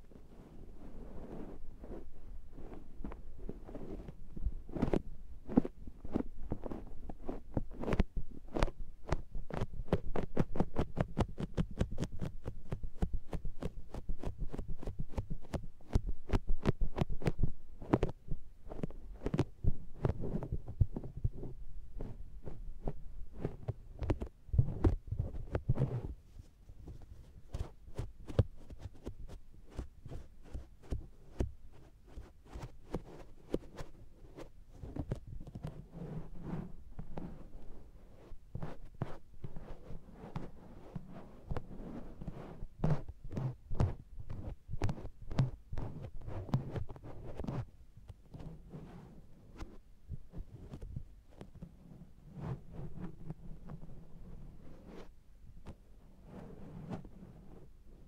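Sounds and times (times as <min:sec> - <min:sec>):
sponge patting microphone: 0:00.0 - 0:57.7.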